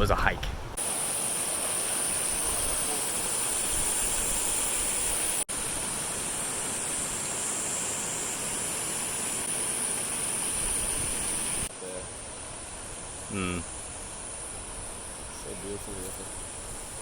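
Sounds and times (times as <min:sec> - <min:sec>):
even rushing hiss: 0:00.8 - 0:17.0
high-pitched insect chorus: 0:00.8 - 0:17.0.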